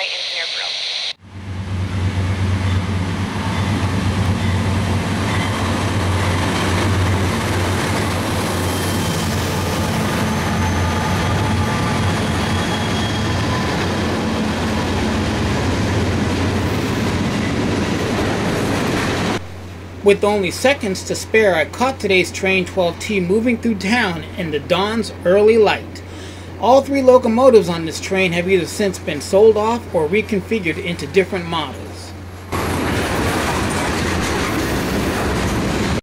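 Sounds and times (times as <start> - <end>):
freight cars wheel and rail noise: 0.0 - 36.0.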